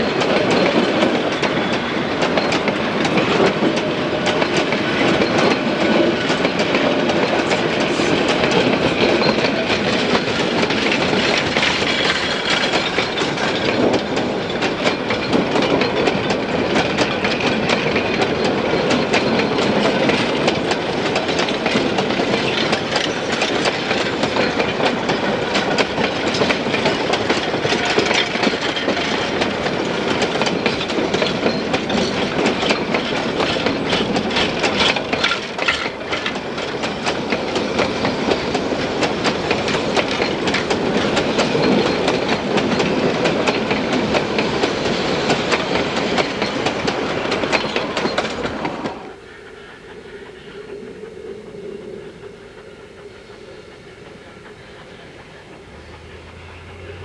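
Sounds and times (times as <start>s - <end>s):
freight cars rumbling and rattling: 0.0s - 49.1s.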